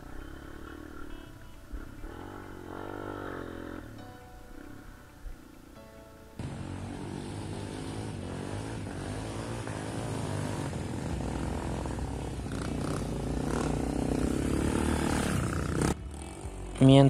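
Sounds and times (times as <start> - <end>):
motorcycle engine running: 0.0 - 5.0, 6.4 - 17.0.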